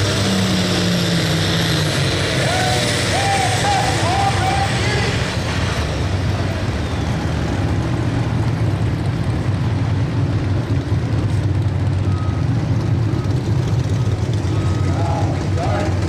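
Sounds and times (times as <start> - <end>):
diesel engine under full load: 0.0 - 16.0.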